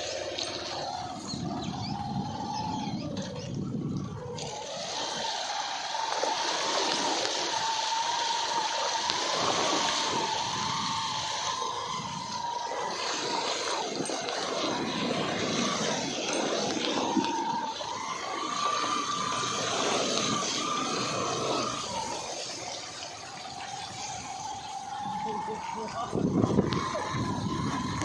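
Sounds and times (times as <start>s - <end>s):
steady wavering whine: 0.0s - 28.0s
vehicle splashing through floodwater: 0.0s - 28.0s.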